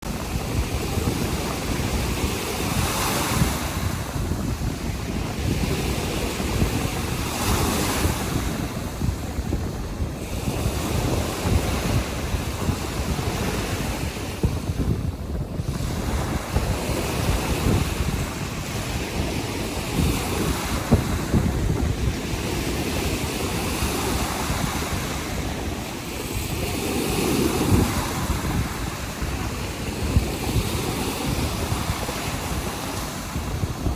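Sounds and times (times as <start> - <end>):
surf breaking on shore: 0.0 - 33.9
wind buffeting microphone: 0.0 - 33.9.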